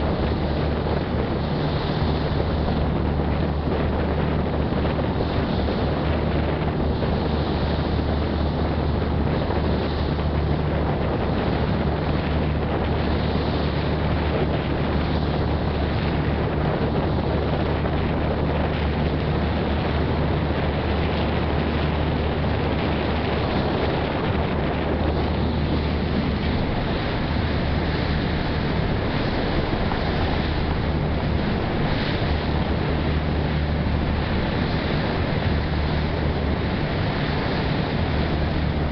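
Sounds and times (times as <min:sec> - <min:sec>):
ferry engine drone: 0:00.0 - 0:38.9
water rushing past hull: 0:00.0 - 0:38.9
wind buffeting microphone: 0:00.0 - 0:38.9.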